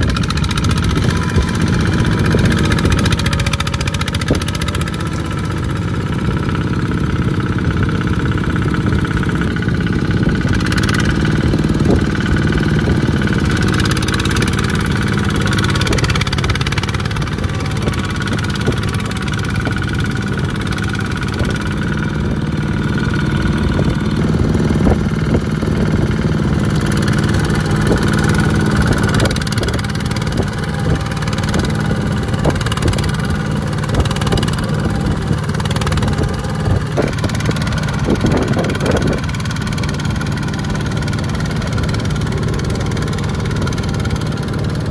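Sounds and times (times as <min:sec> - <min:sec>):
small tractor engine running: 0:00.0 - 0:44.9.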